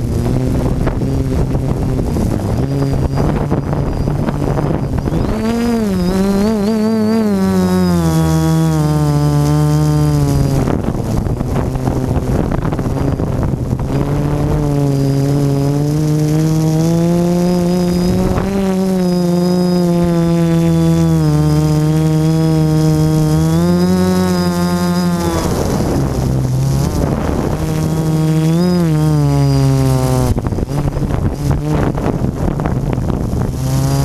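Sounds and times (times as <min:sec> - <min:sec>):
drone motors humming: 0:00.0 - 0:34.0
wind noise: 0:00.0 - 0:34.0.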